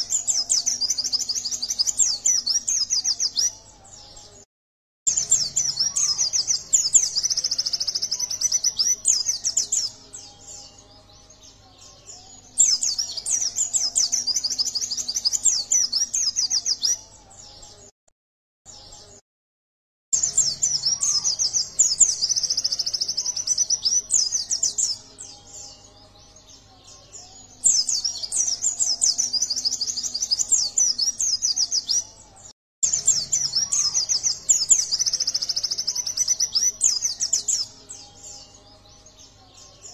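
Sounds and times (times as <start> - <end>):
bird twittering song: 0.0 - 4.4, 5.1 - 17.9, 20.2 - 39.9.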